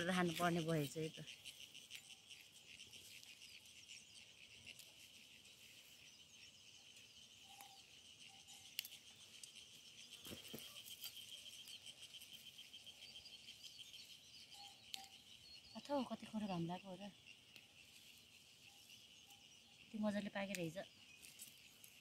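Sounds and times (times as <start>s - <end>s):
insect trill: 0.0s - 22.0s.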